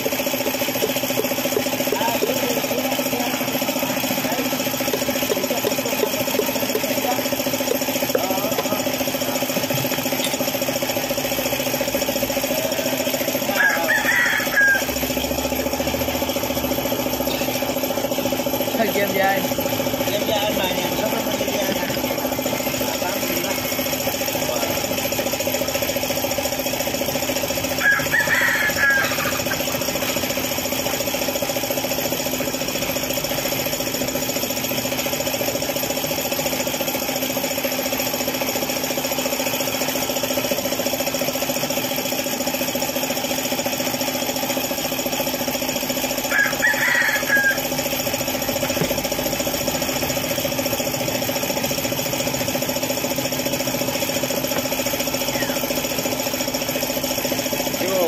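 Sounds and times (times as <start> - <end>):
engine idling with knocking: 0.0 - 58.0.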